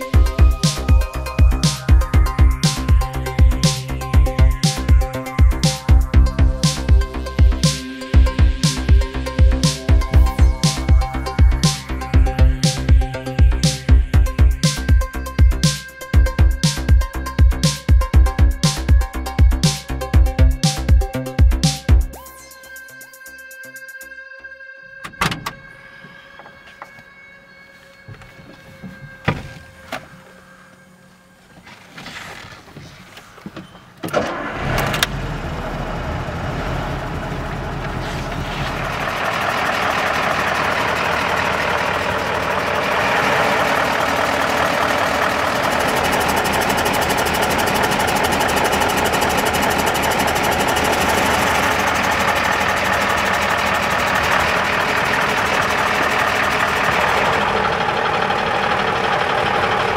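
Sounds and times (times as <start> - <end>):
diesel truck engine running: 0.0 - 22.2, 34.1 - 59.9.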